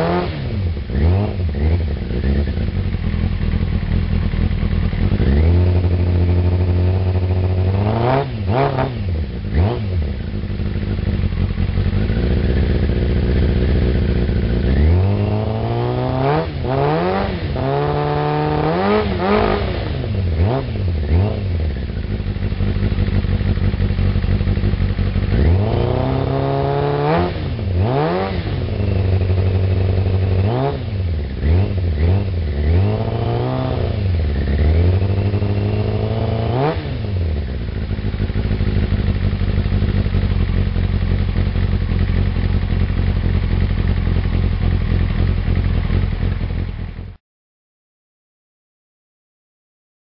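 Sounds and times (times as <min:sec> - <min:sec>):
motorcycle engine revving and idling: 0:00.0 - 0:47.2.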